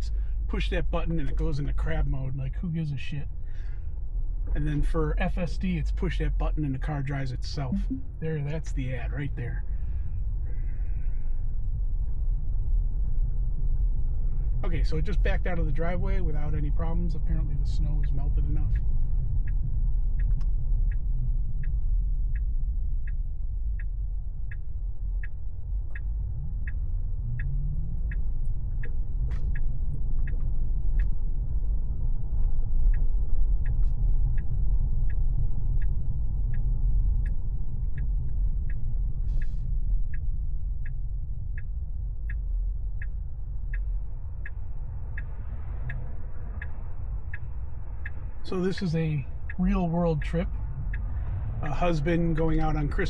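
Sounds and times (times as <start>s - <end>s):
low road rumble: 0.0s - 53.0s
turn signal ticking: 0.0s - 53.0s.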